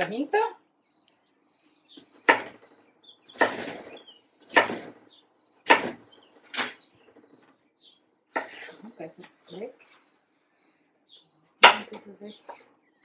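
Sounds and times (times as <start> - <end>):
high pulsing chirp: 0.0 - 13.0.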